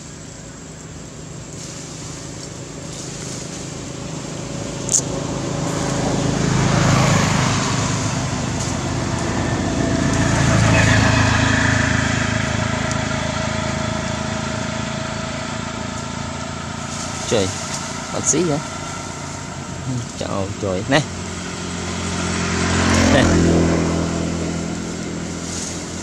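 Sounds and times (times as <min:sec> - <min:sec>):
passing vehicle engine: 0:00.0 - 0:26.0.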